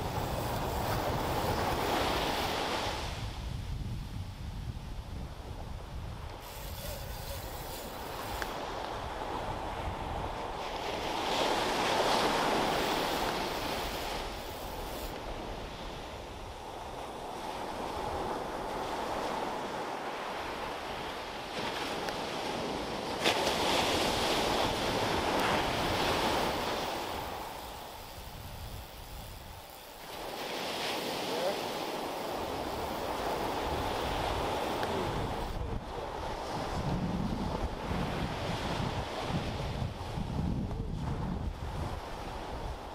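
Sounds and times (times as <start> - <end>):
ocean waves breaking on beach: 0.0 - 4.2, 5.2 - 42.9.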